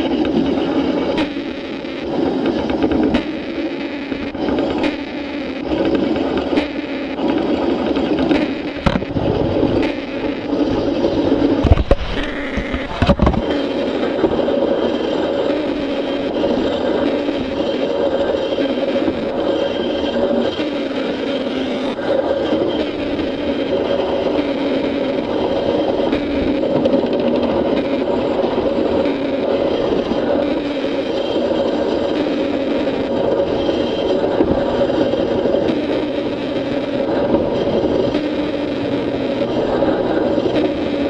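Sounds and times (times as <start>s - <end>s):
model train rolling on track: 0.0s - 41.0s.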